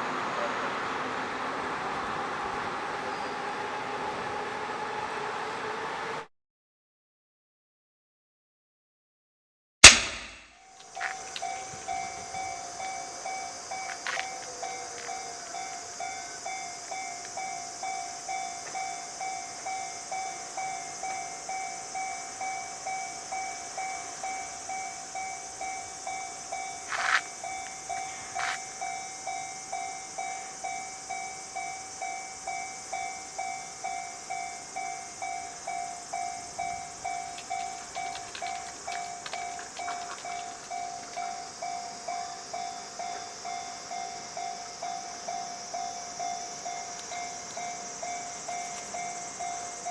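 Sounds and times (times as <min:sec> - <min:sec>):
level-crossing warning bell: 0:00.0 - 0:06.3, 0:10.6 - 0:49.9.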